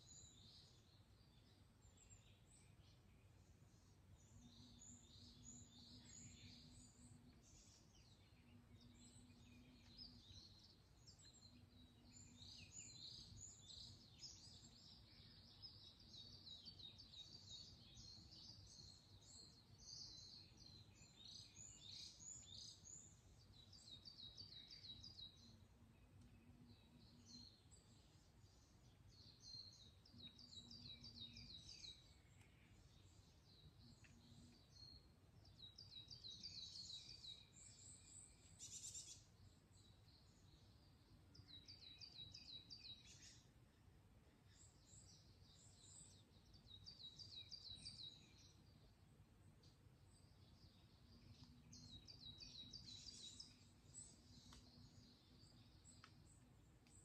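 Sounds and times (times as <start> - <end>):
birds chirping and trilling: 0.0 - 43.6, 44.4 - 57.0
low background hiss: 0.0 - 57.0.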